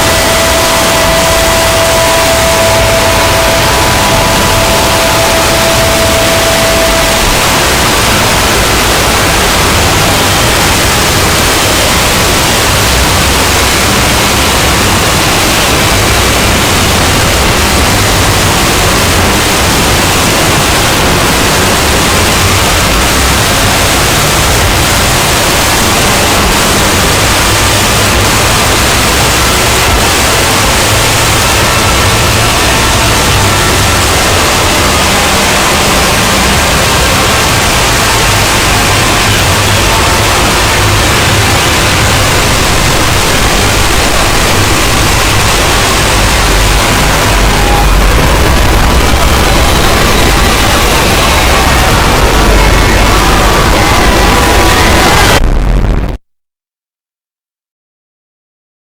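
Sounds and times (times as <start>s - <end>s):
harsh distorted noise: 0.0s - 56.2s.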